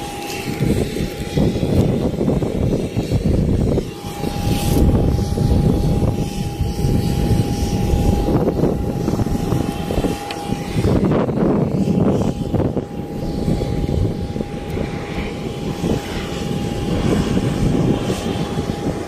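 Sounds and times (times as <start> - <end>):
aircraft turbine rumble: 0.0 - 19.0
turbine whine: 0.0 - 19.0.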